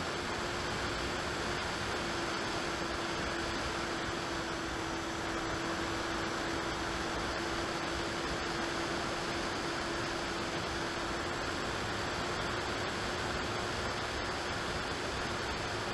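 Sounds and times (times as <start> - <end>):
motor and propeller drone: 0.0 - 15.9.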